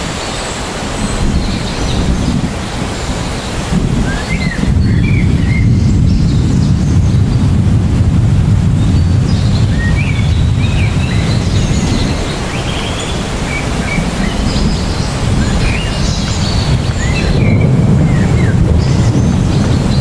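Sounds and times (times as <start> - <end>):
birds chirping: 0.0 - 20.0
heavy rain on trees: 0.0 - 20.0
low uneven rumble: 1.0 - 20.0.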